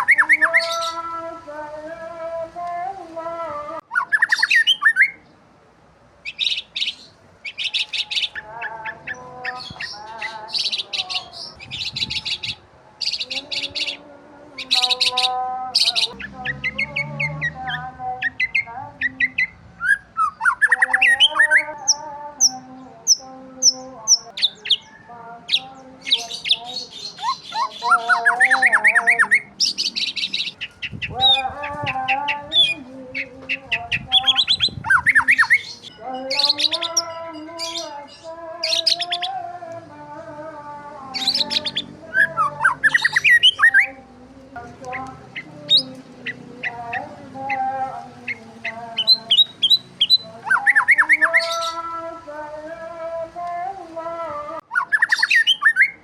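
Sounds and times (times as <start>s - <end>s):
birds chirping and singing: 0.0s - 5.4s, 6.2s - 56.0s.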